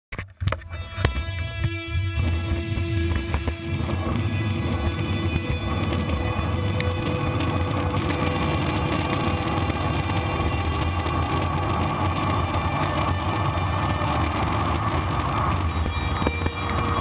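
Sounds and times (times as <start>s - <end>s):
longboard wheels rolling on asphalt: 0.5s - 17.0s.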